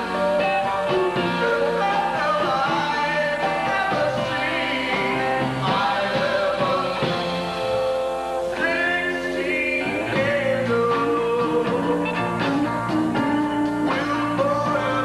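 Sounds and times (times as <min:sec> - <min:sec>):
live rock and roll band: 0:00.0 - 0:15.0
man singing into a microphone: 0:01.1 - 0:07.8, 0:08.5 - 0:15.0.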